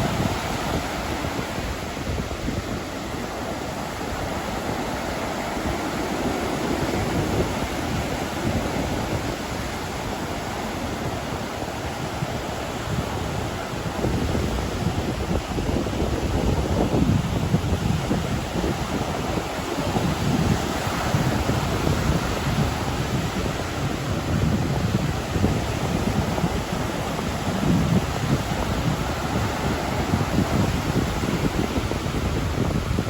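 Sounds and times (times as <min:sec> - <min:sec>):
ocean waves washing in: 0:00.0 - 0:33.0.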